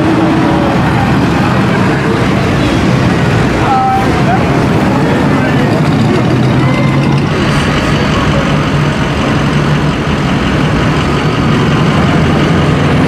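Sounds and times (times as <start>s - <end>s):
pickup truck engines rumbling: 0.0s - 13.0s
traffic hum: 0.0s - 13.0s.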